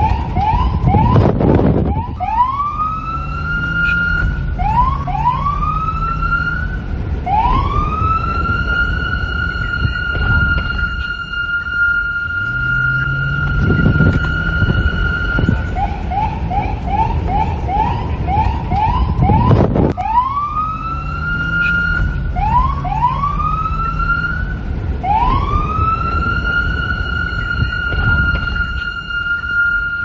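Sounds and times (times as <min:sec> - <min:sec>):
low rumble: 0:00.0 - 0:30.0
police siren wailing and yelping: 0:00.0 - 0:30.0.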